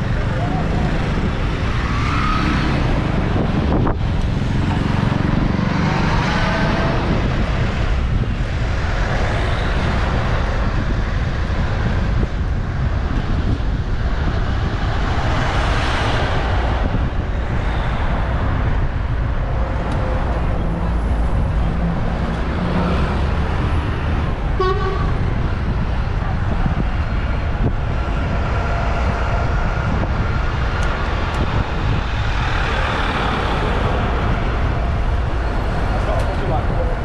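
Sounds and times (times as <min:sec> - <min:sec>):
road traffic: 0:00.0 - 0:37.0
wind rushing over microphone: 0:00.0 - 0:37.0.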